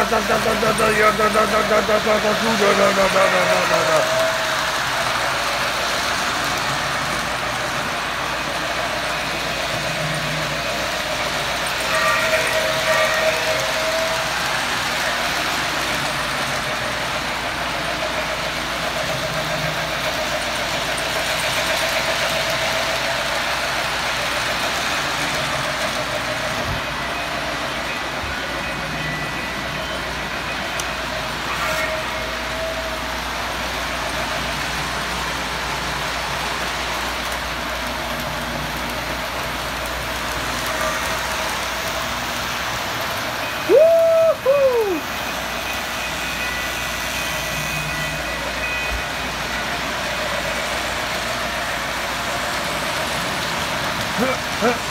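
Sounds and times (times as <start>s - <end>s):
model trains whirring and rolling: 0.0s - 54.9s.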